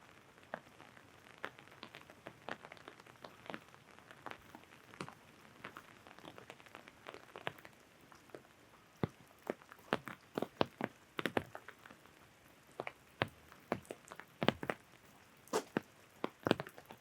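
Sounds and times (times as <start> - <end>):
faint rain hiss: 0.0 - 17.0.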